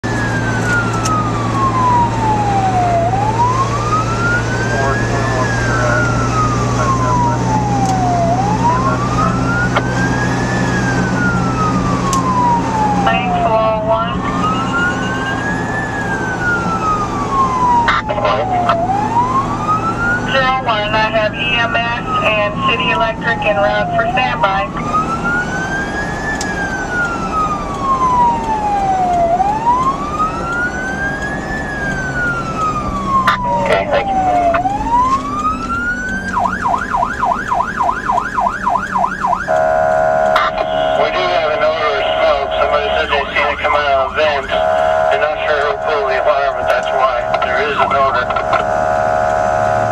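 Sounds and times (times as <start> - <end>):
siren wailing: 0.0 - 49.9
vehicle road drone: 0.0 - 49.9.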